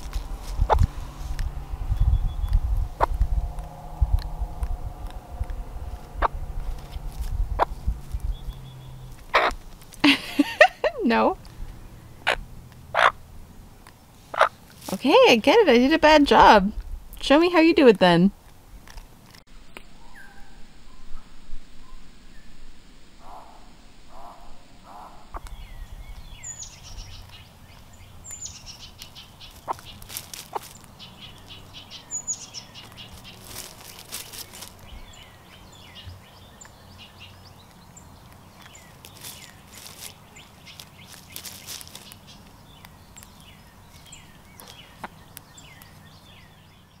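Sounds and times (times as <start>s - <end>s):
rustling in dry leaves: 0.0s - 16.3s, 25.3s - 47.0s
birds chirping: 0.0s - 18.4s, 19.9s - 47.0s
low steady hum: 0.0s - 47.0s.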